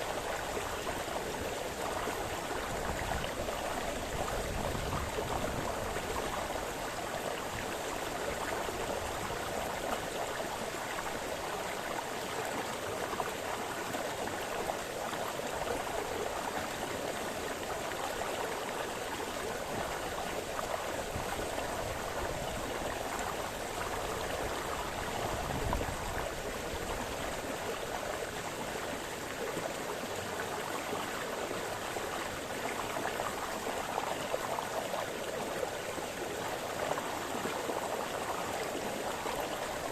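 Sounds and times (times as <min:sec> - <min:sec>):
brook running water: 0:00.0 - 0:39.9.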